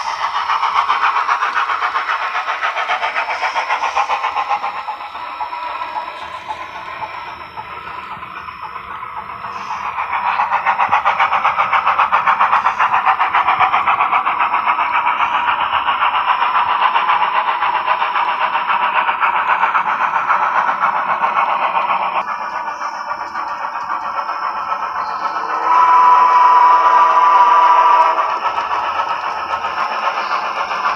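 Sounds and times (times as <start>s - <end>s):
steam locomotive chuffing from speaker: 0.0s - 30.9s.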